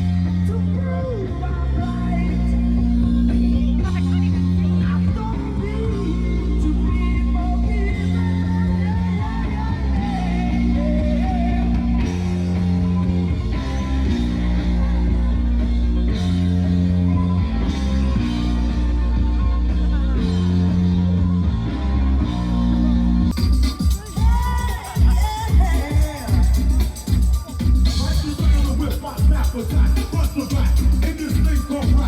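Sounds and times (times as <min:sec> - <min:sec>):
low bass part: 0:00.0 - 0:32.0
person singing: 0:00.0 - 0:32.0
rock music: 0:00.0 - 0:32.0.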